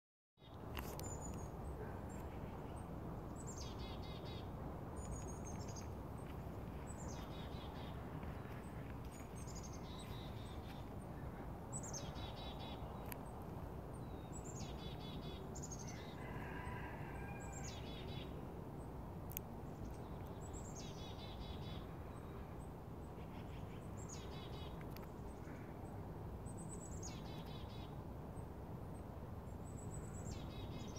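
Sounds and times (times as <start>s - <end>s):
low background noise: 0.4s - 30.9s.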